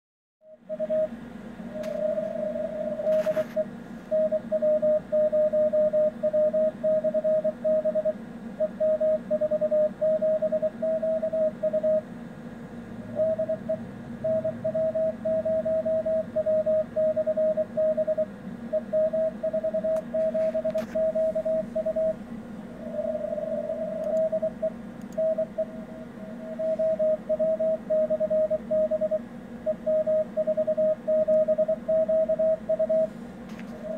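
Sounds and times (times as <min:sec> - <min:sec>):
steady low hum: 0:00.4 - 0:33.9
morse code tone: 0:00.5 - 0:12.1, 0:13.1 - 0:33.2.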